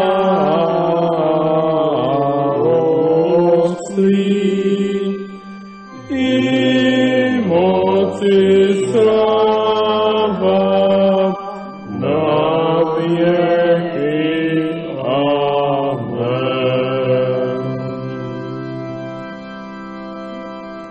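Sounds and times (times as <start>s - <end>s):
choir singing church music: 0.0s - 20.9s
organ chords: 0.0s - 20.9s.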